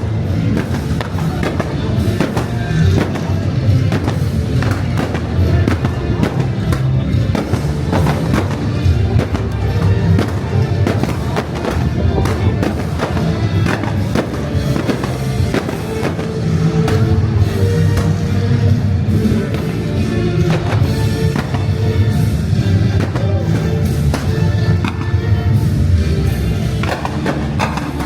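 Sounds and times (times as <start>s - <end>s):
fireworks banging and crackling: 0.0s - 28.0s
loud show music: 0.0s - 28.0s.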